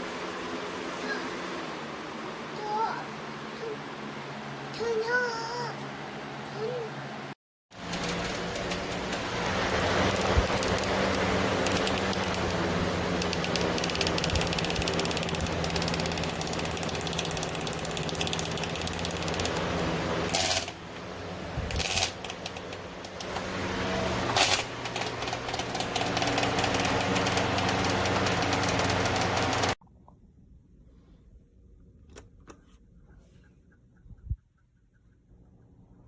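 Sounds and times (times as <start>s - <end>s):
box fan humming and ticking: 0.0s - 29.8s.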